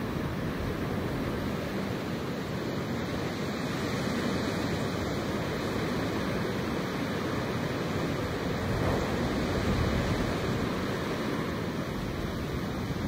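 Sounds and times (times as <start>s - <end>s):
wind blowing through grass: 0.0s - 13.0s.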